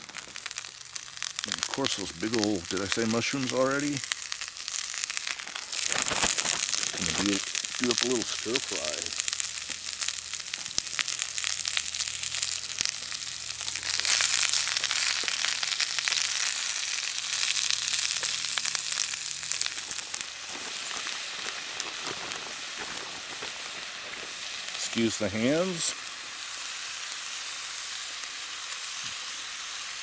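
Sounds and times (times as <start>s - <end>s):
vegetables sizzling and crackling: 0.0s - 30.0s.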